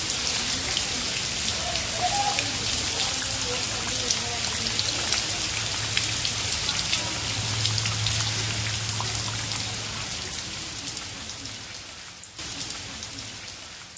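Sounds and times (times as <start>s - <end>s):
rain drops splashing in puddle: 0.0s - 13.9s
steady rain hiss: 0.0s - 13.9s.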